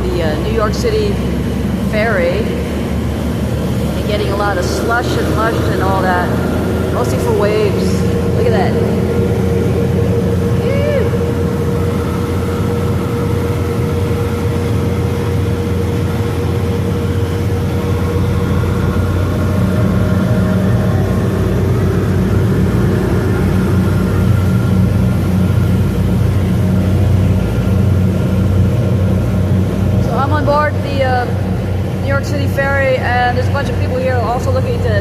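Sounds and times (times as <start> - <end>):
ferry engines droning: 0.0 - 35.0
rushing wind: 0.0 - 35.0
water noise: 0.0 - 35.0.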